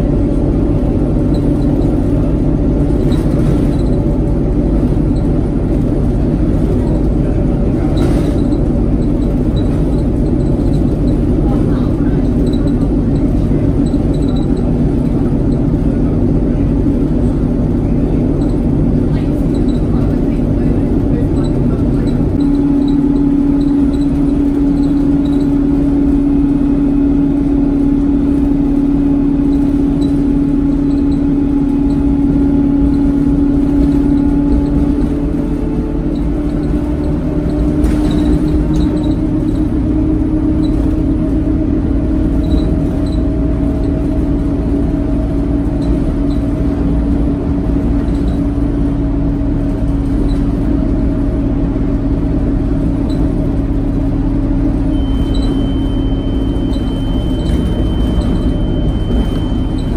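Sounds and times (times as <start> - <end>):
bus engine droning whine: 0.0 - 59.9
road rumble: 0.0 - 59.9.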